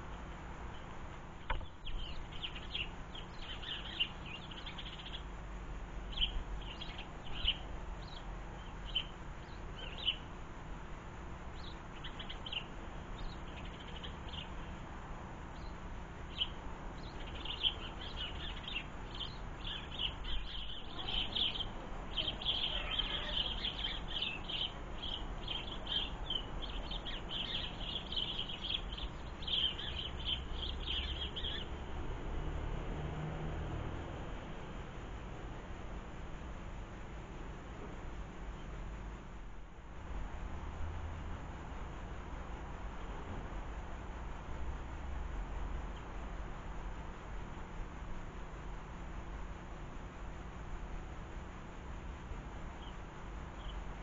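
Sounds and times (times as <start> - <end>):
small birds chirping: 0.0 - 39.3, 45.5 - 54.0.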